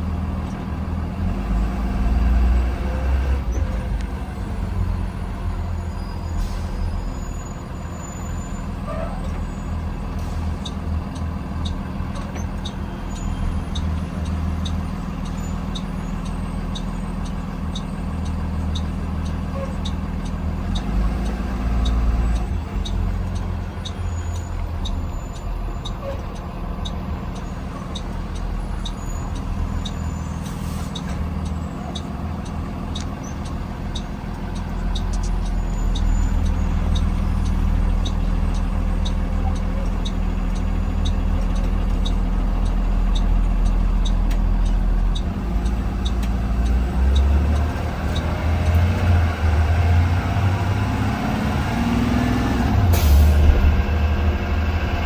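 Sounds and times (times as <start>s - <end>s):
bus engine running: 0.0s - 55.0s
steady ticking: 6.9s - 55.0s.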